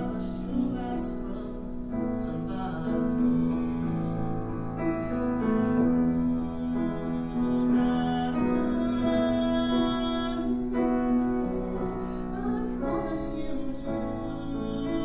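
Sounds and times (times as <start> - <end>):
grand piano accompaniment: 0.0 - 15.0.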